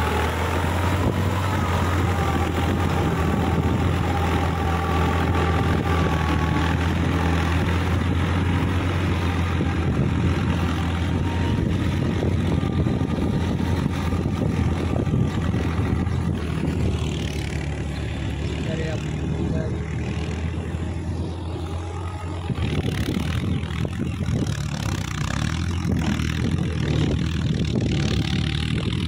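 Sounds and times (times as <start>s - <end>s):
diesel tractor engine running: 0.0s - 29.0s.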